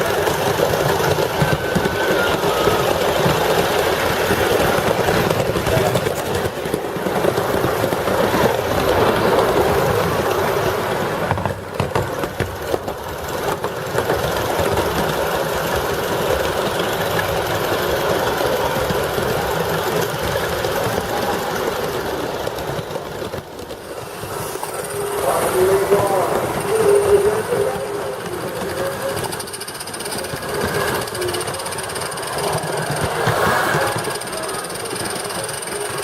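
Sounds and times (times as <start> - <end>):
steam locomotive hissing and rattling: 0.0 - 36.0.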